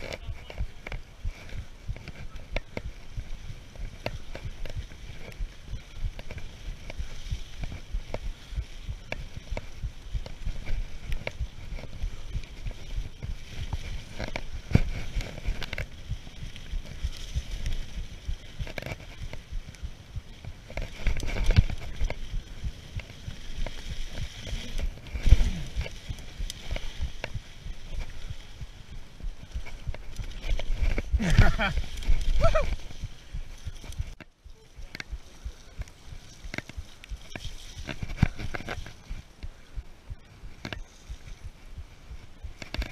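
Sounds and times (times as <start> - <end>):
bike rattling over bumps: 0.0 - 39.7
bike tyres rushing through leaves: 0.0 - 42.9.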